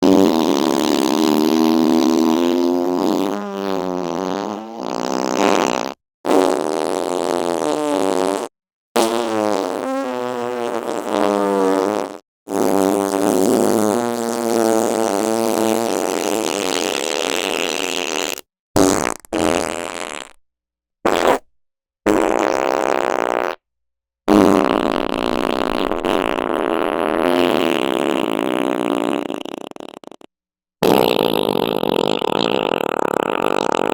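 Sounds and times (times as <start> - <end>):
fart sound effects: 0.0 - 20.4, 21.1 - 21.4, 22.1 - 23.6, 24.3 - 33.9.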